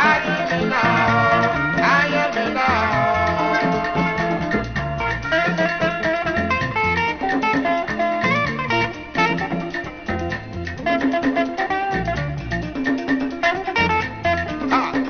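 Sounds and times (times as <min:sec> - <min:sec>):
bass line: 0:00.0 - 0:15.0
guitars picking melodic lines: 0:00.0 - 0:15.0
percussion: 0:00.0 - 0:15.0.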